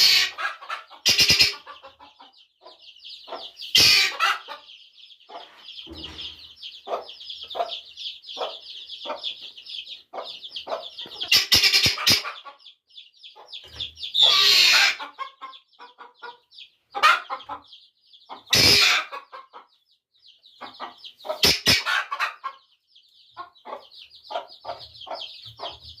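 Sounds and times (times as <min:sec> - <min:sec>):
chicks peeping: 0:00.0 - 0:26.0
mother bird clucking: 0:00.0 - 0:26.0.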